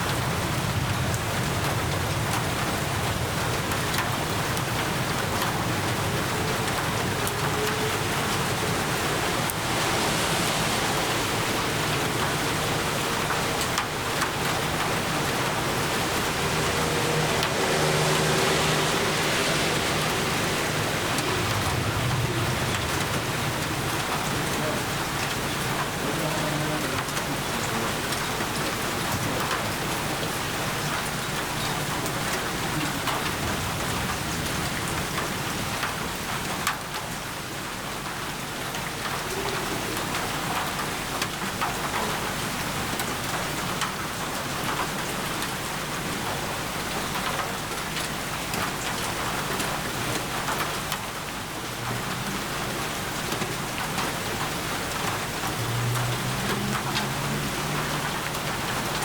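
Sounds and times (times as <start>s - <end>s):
raindrops tapping on surface: 0.0s - 59.0s
steady rain falling: 0.0s - 59.0s.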